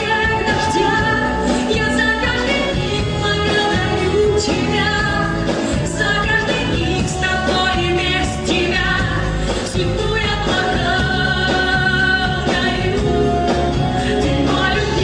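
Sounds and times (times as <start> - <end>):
live band playing: 0.0 - 15.0
person singing: 0.0 - 15.0.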